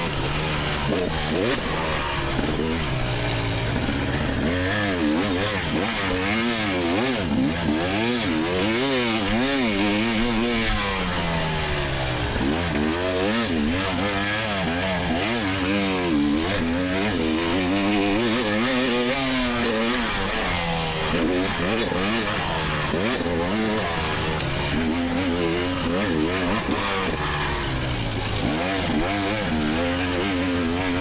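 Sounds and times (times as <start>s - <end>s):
two-stroke engine revving: 0.0s - 31.0s.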